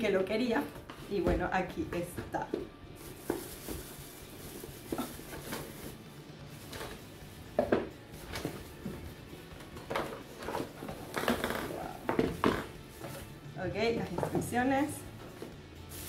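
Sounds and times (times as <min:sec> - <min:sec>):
cardboard and packing rustling: 0:00.5 - 0:16.0.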